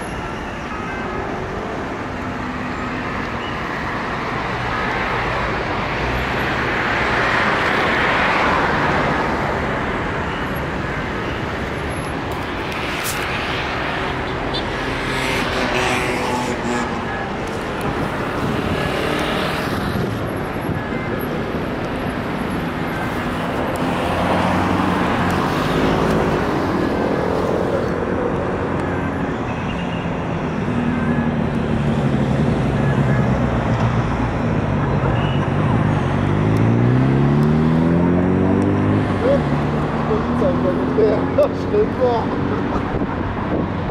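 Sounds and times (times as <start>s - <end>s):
city road traffic: 0.0s - 43.9s.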